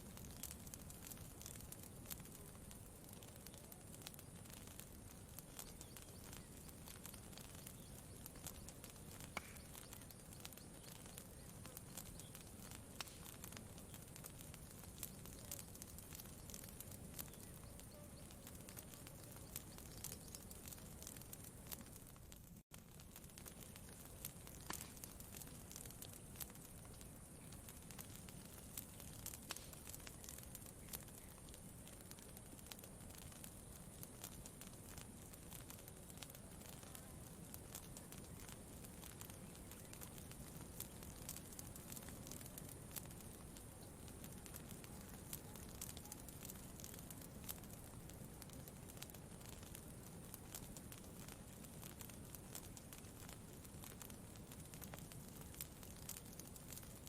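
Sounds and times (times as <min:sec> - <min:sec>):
faint campfire crackling: 0:00.0 - 0:57.0.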